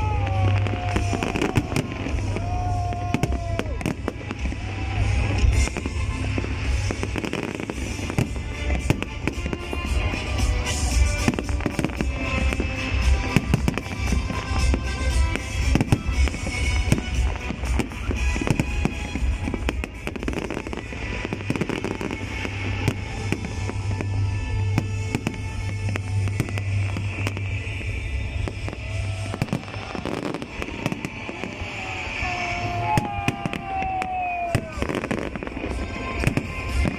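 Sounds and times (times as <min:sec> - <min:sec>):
fireworks bangs and crackles: 0:00.0 - 0:36.9
music playing: 0:00.0 - 0:36.9.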